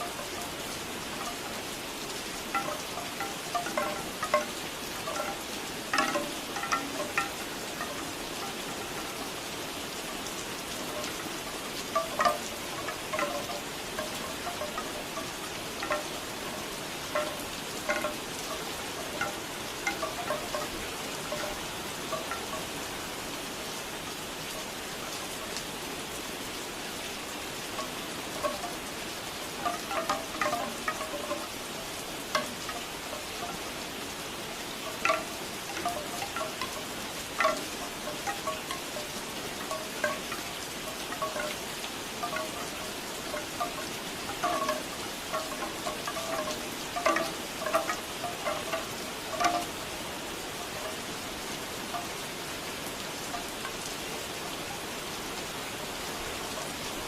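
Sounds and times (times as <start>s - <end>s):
bamboo wind chimes knocking: 0.0s - 25.6s, 27.6s - 57.0s
steady rain: 0.0s - 57.0s.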